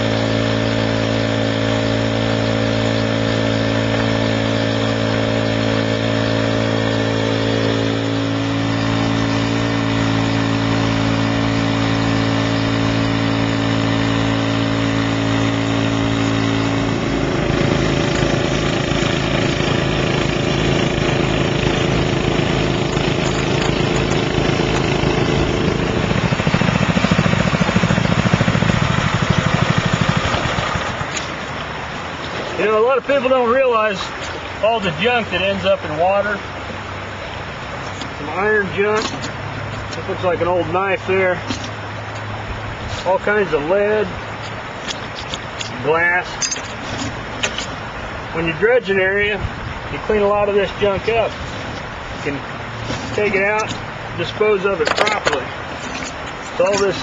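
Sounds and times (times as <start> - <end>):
gasoline engine driving pump: 0.0 - 57.0
river water rushing: 0.0 - 57.0.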